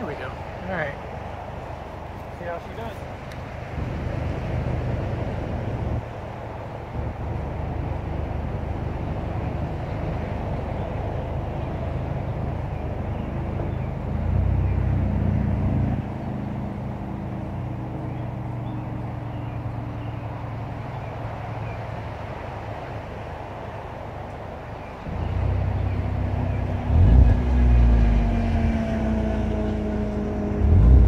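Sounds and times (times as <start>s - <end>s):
car exhaust drone: 0.0s - 31.0s
distant highway traffic hiss: 0.0s - 31.0s.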